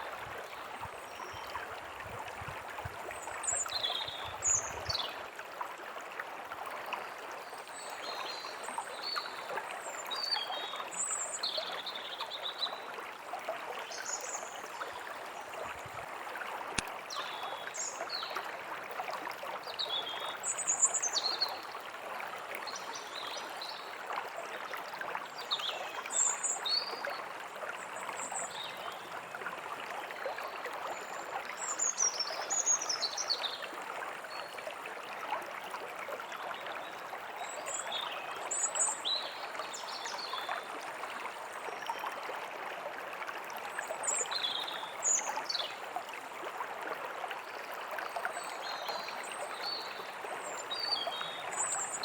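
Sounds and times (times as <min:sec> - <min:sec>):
stream water running: 0:00.0 - 0:52.0.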